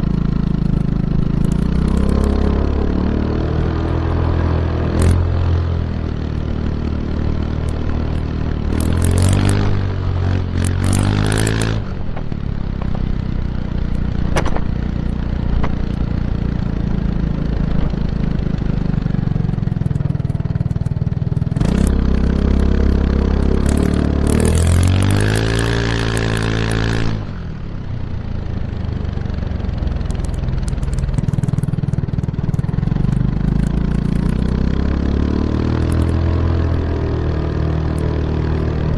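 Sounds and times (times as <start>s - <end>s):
scooter engine while riding: 0.0s - 38.9s.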